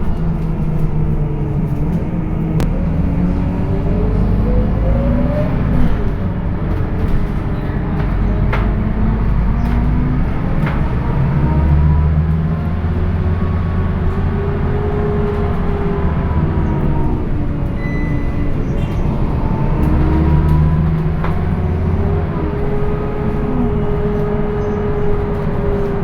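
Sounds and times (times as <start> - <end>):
bus engine rumbling: 0.0 - 26.0
gearbox whining: 0.0 - 26.0.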